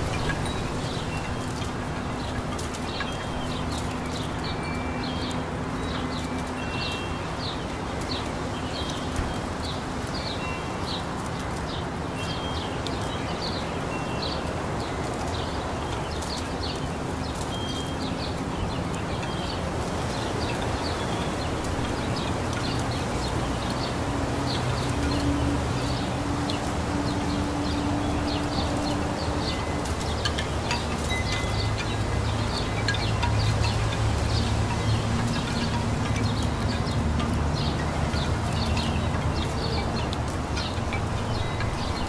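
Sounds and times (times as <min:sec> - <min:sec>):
breeze rustling leaves: 0:00.0 - 0:42.0
small birds chirping: 0:00.0 - 0:42.0.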